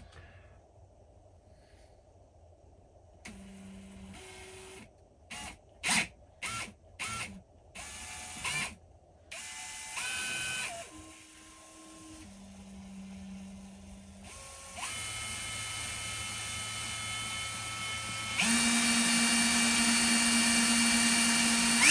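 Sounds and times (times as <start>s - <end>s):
cordless drill motor whine: 3.3s - 21.9s.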